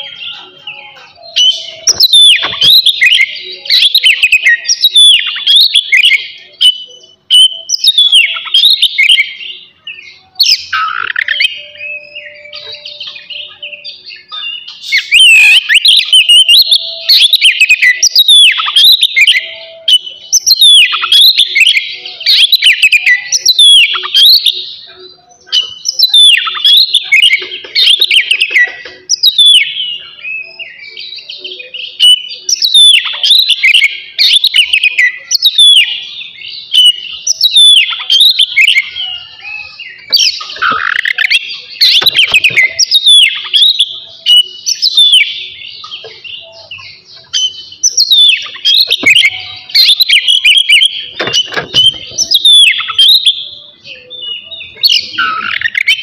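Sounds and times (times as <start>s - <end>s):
bird singing whistles and chirps: 0.0s - 56.0s.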